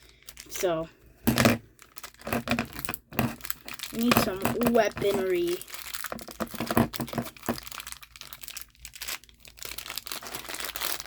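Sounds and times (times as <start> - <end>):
plastic bag crinkling and tearing: 0.0 - 11.0.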